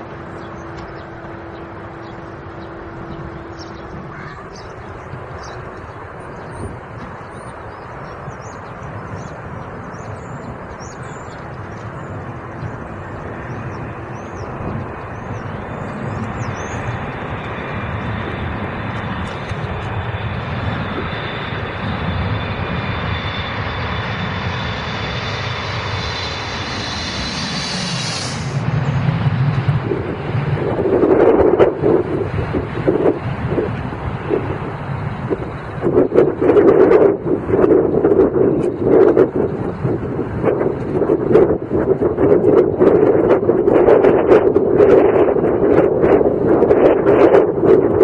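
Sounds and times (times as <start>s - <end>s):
jet airliner engines approaching: 0.0s - 48.0s.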